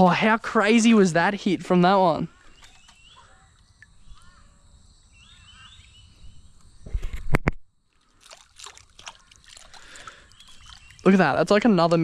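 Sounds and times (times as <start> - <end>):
birds calling: 0.0 - 7.1, 8.7 - 12.0.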